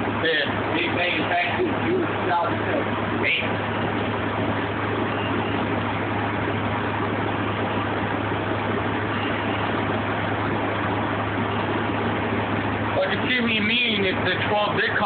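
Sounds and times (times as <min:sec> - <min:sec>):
bus engine idling hum: 0:00.0 - 0:15.0.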